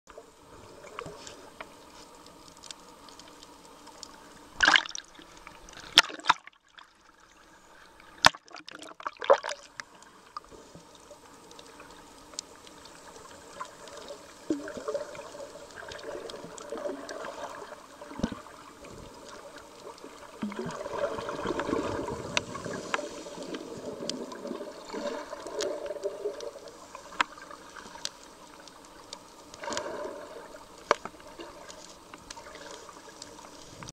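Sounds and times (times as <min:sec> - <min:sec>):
underwater water noise: 0:00.1 - 0:33.9.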